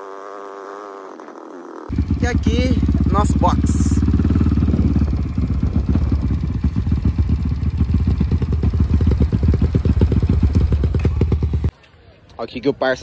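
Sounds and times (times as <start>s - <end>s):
motocross bike engine low revs: 0.0s - 11.7s.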